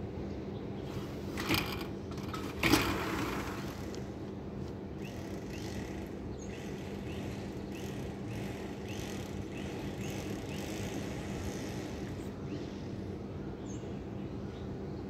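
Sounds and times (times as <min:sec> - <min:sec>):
distant traffic rumble: 0:00.0 - 0:14.8
constant low hum: 0:00.0 - 0:15.0.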